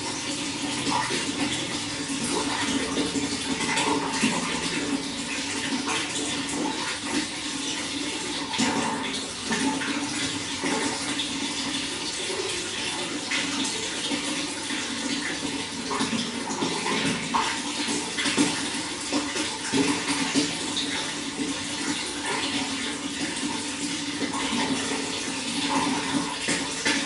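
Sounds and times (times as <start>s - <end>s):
water running and splashing: 0.0s - 27.0s.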